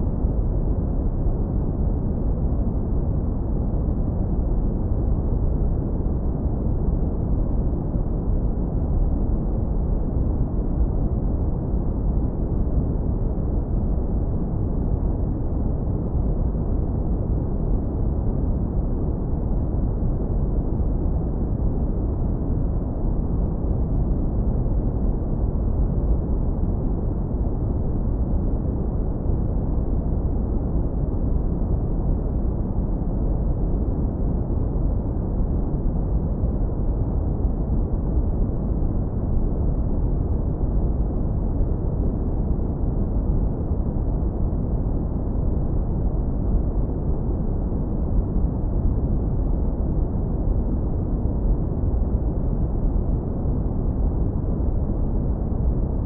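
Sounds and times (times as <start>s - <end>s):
brown noise rumble: 0.0s - 56.0s.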